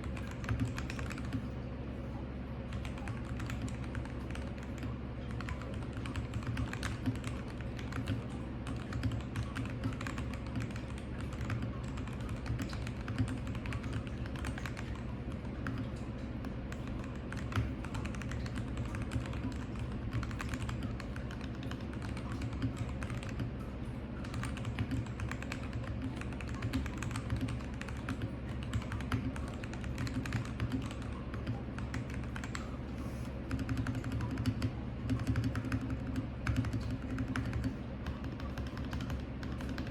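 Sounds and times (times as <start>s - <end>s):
fast typing on mechanical keyboard: 0.0s - 1.5s, 2.7s - 23.5s, 24.2s - 32.7s, 33.5s - 39.9s.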